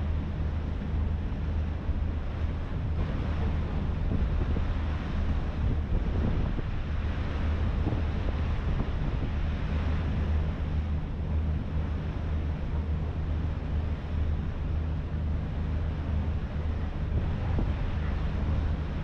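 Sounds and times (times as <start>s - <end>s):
boat engine droning: 0.0s - 19.0s
water rushing along hull: 0.0s - 19.0s
wind buffeting microphone: 0.0s - 19.0s.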